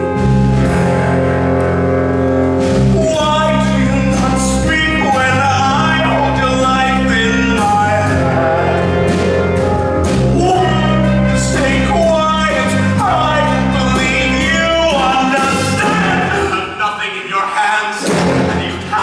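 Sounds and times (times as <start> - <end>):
pit orchestra playing low chords: 0.0 - 16.9, 18.0 - 19.0
man singing: 2.8 - 9.6, 10.2 - 19.0.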